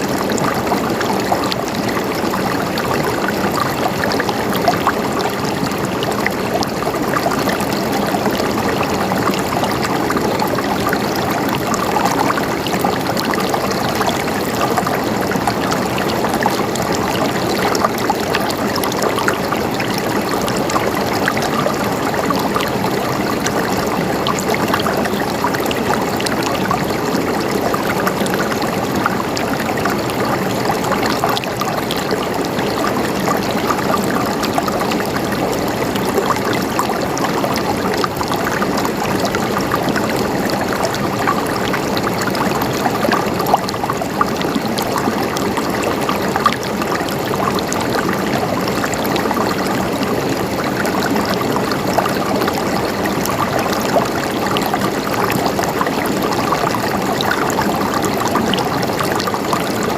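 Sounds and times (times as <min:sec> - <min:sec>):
water running over rocks: 0:00.0 - 0:59.9.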